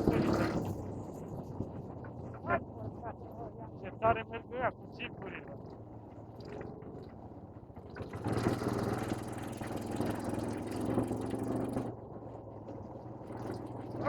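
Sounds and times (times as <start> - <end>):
quad bike engines running: 0.0 - 14.0.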